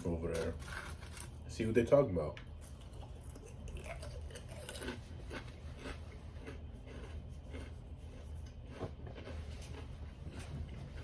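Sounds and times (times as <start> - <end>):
person chewing food: 0.3 - 1.4, 2.5 - 11.0.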